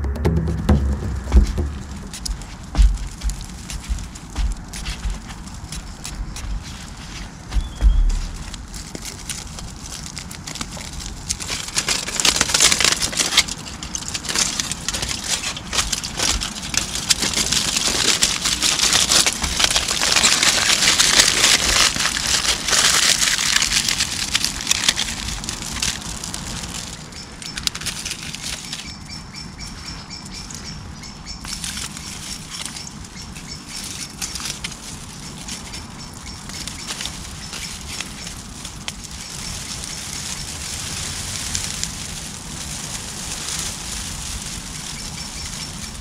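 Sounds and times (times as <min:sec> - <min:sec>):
aluminium foil crinkling: 0:01.3 - 0:30.6, 0:31.4 - 0:46.0.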